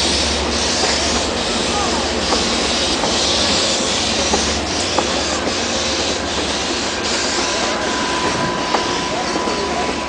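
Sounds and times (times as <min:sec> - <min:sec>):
train rushing past: 0:00.0 - 0:10.0.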